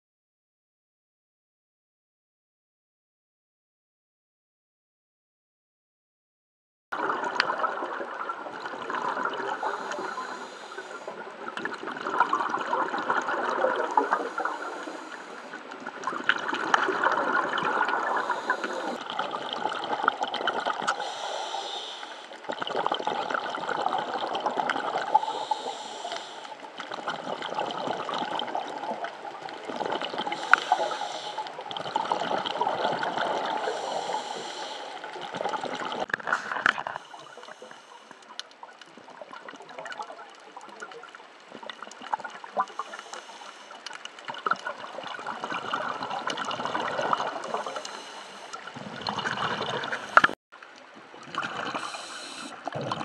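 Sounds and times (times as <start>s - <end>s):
water swishing underwater: 7.0s - 53.0s.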